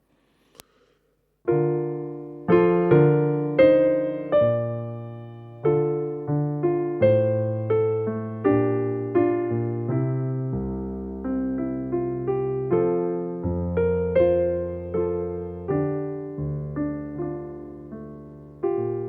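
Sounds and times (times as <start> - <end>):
slow piano chords: 1.5 - 19.0.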